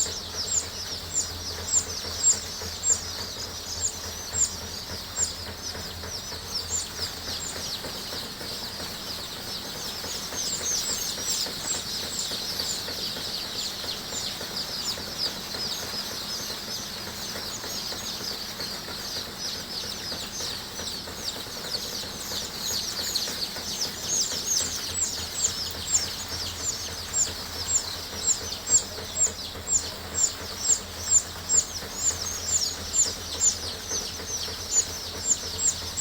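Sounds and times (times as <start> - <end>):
chicks peeping: 0.0 - 36.0
louder repeated chick peep: 0.0 - 36.0.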